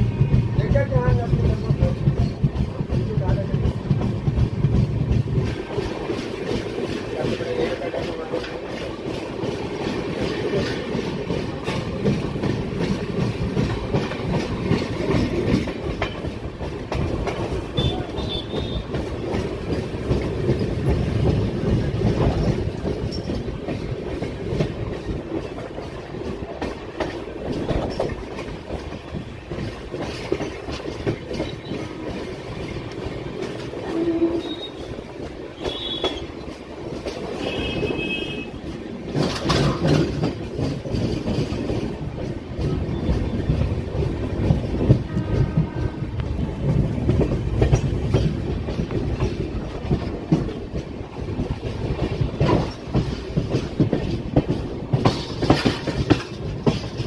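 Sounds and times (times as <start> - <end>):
train rumbling on rails: 0.0 - 57.0
wheels clattering over track: 1.1 - 57.0.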